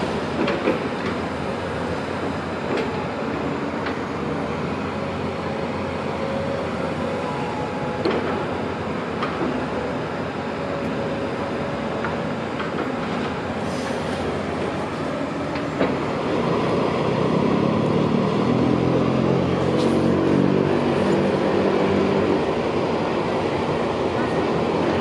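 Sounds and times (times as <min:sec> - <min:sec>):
diesel locomotive engine: 0:00.0 - 0:25.0.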